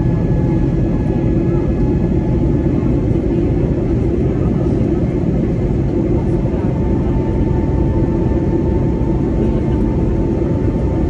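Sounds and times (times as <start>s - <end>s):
jet engine cabin drone: 0.0s - 11.0s.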